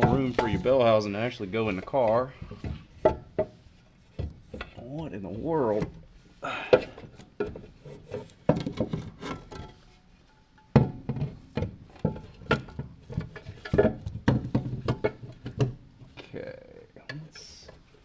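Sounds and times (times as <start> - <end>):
metal clunks knocks and scrapes: 0.0 - 16.2.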